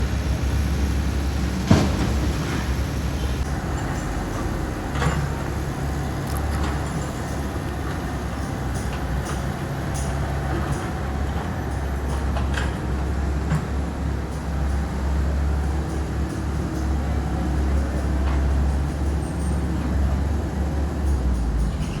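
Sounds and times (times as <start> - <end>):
excavator engine humming: 0.0 - 22.0.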